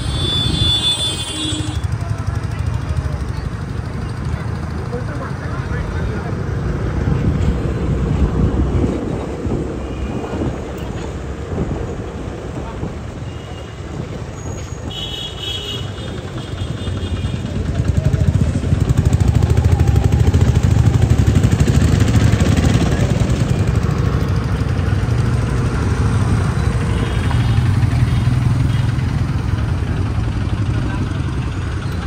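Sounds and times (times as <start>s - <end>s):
street traffic engines: 0.0s - 32.0s.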